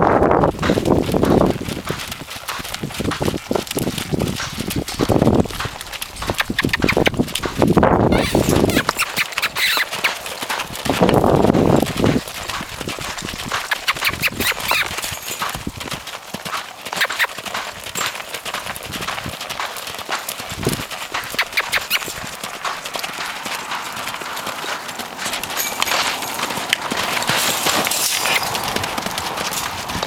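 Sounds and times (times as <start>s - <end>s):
horse hoofbeats on sand: 0.0s - 30.0s.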